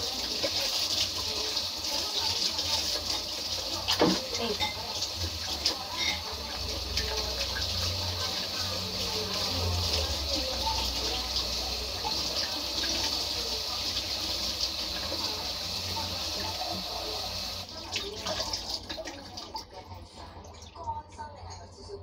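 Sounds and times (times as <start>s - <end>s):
tap water splashing into basin: 2.0s - 19.7s.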